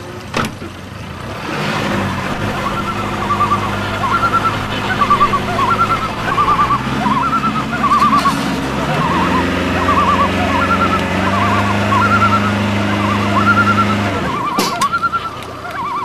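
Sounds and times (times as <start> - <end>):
engine running: 0.0 - 16.0
quick high chirps: 2.1 - 16.0.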